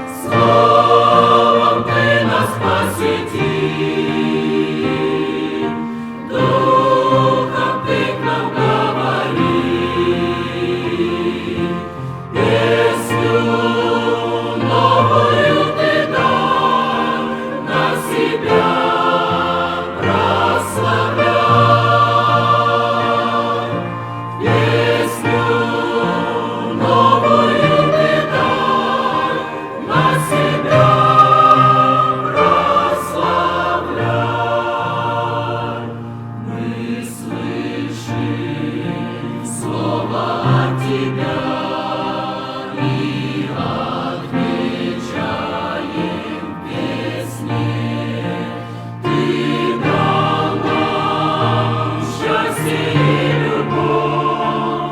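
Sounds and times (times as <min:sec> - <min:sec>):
choir singing a hymn: 0:00.0 - 0:54.9.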